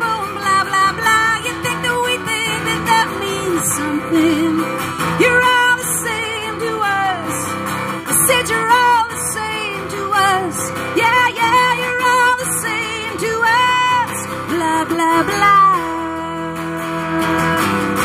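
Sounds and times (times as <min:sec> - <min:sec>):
strummed acoustic guitar: 0:00.0 - 0:18.0
woman singing: 0:00.0 - 0:18.0.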